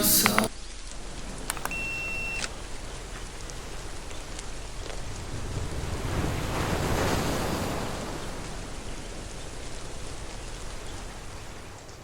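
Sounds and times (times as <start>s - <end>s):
steady rain: 0.0s - 1.7s, 2.4s - 12.0s.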